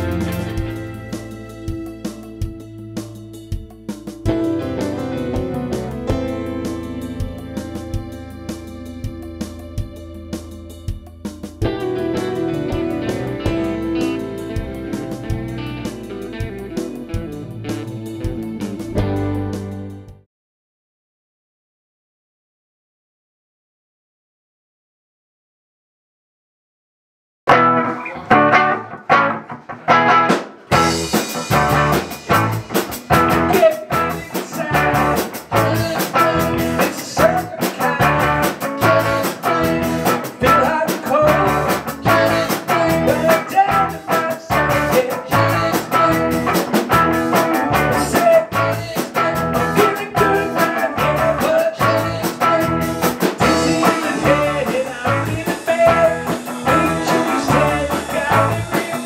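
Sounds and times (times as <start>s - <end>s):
drum beat: 0.0s - 19.6s, 30.1s - 59.0s
electric guitars: 0.0s - 20.1s, 27.5s - 59.0s
bass guitar: 0.0s - 20.2s, 27.5s - 59.0s.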